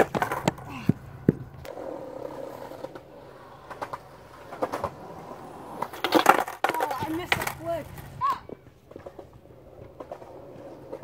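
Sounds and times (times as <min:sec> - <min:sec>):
skateboard clacking on concrete: 0:00.0 - 0:11.0
skateboard popping and landing: 0:00.0 - 0:11.0.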